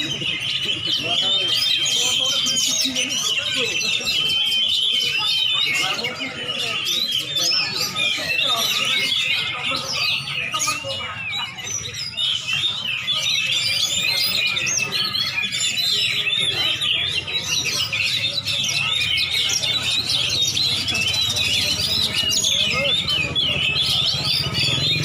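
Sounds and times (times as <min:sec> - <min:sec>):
songbirds chirping and singing: 0:00.0 - 0:25.0.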